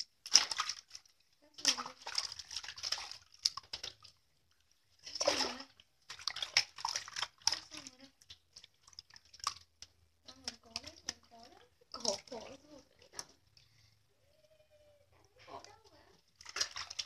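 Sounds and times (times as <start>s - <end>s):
water splashing in metal basin: 0.0s - 13.7s, 15.5s - 17.0s.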